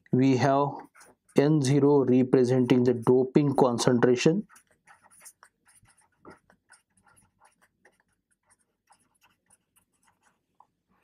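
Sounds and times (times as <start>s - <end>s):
marker scratching on whiteboard: 0.0s - 11.0s.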